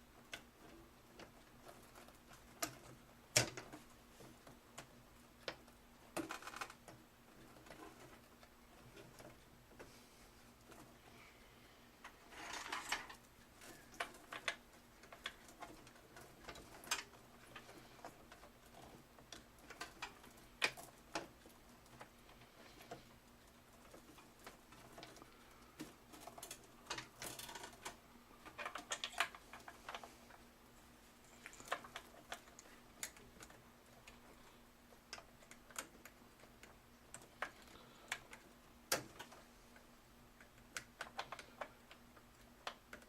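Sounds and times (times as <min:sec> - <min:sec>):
cables rustling: 0:00.0 - 0:43.0.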